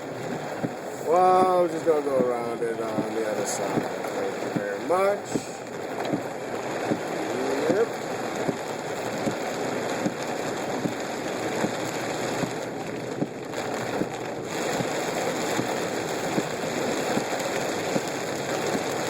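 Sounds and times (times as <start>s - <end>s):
heavy rain on a car: 0.0s - 19.0s.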